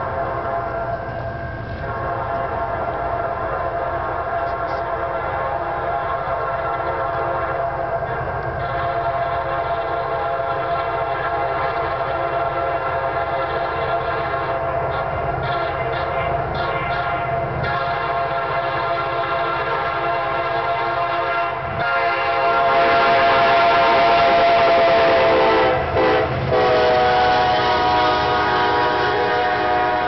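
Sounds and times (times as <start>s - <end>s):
train air horn chord: 0.0s - 1.1s, 1.7s - 7.7s, 8.6s - 30.0s
low train rumble: 0.0s - 30.0s.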